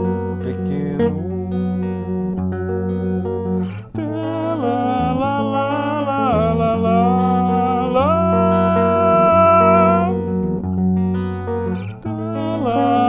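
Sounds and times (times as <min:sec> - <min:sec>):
solo guitar playing: 0:00.0 - 0:13.0.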